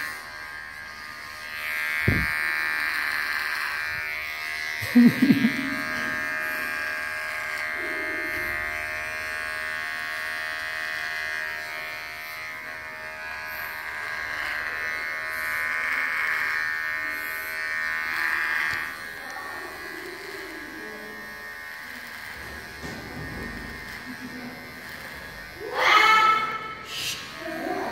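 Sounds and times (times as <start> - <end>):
electric hair clippers buzzing: 0.0 - 27.9.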